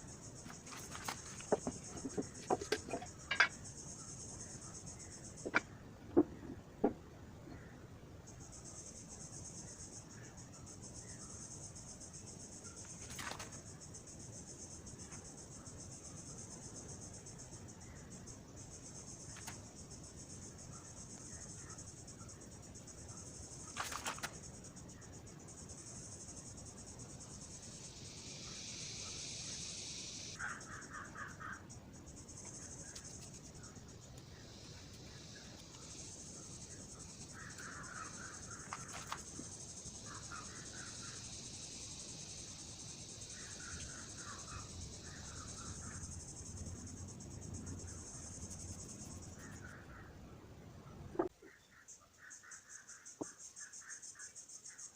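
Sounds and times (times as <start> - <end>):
trilled insect calls: 0.0 - 50.2, 51.2 - 54.9
insects chirring: 0.0 - 54.9.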